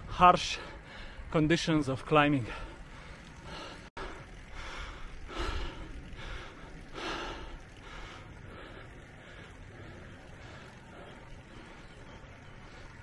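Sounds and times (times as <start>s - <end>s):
cyclist breathing hard: 0.5s - 1.4s, 2.5s - 13.0s.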